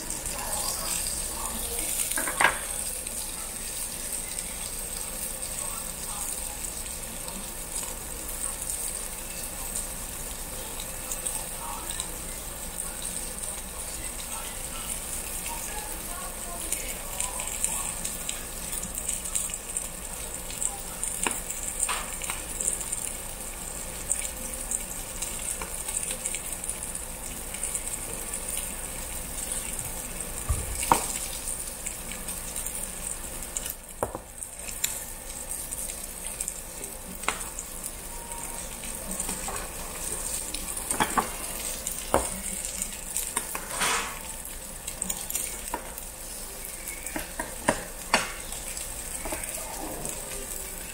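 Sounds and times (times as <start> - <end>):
meat sizzling on a grill: 0.0 - 50.9.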